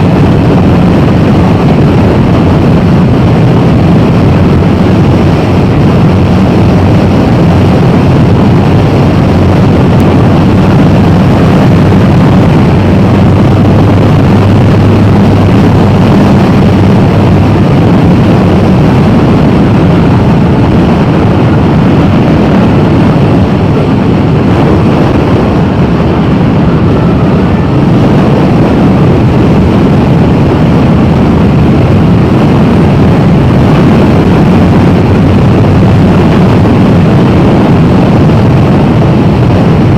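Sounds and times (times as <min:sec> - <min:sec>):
motorcycle running: 0:00.0 - 0:39.9.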